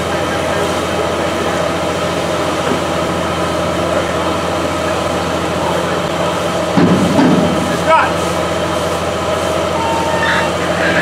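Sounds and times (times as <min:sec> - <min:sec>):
truck engine at high idle: 0:00.0 - 0:11.0.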